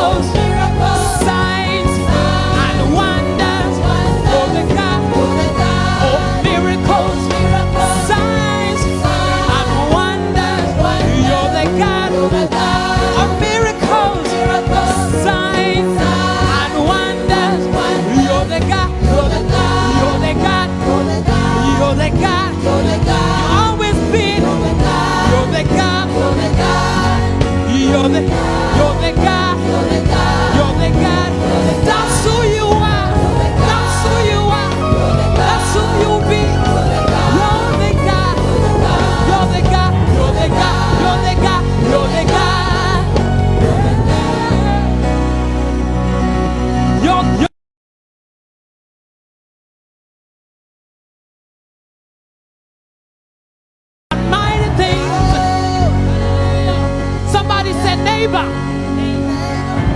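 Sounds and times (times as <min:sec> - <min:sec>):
band bass and drums: 0:00.0 - 0:47.4, 0:54.1 - 0:58.0
choir singing gospel: 0:00.0 - 0:47.5, 0:54.1 - 0:59.9.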